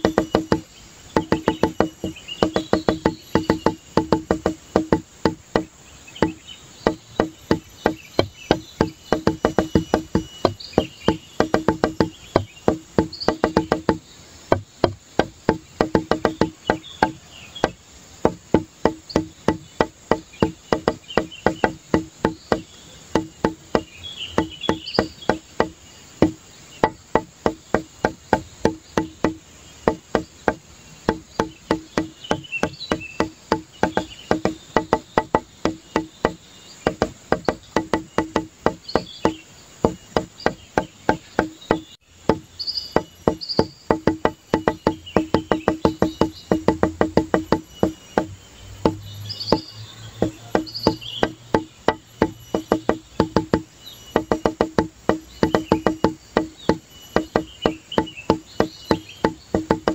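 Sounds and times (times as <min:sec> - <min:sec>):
wood-block-like knocking beat: 0:00.0 - 0:59.9.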